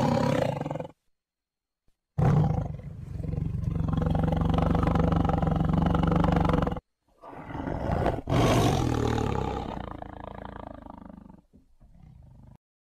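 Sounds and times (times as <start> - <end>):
tiger roaring: 0.0 - 1.0, 2.2 - 12.6.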